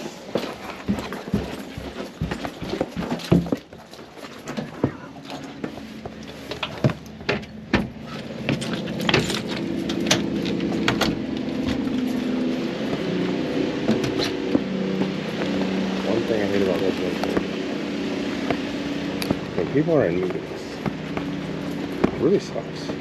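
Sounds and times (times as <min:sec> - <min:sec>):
heat pump humming: 0:00.0 - 0:23.0
handling clicks and knocks: 0:00.2 - 0:23.0.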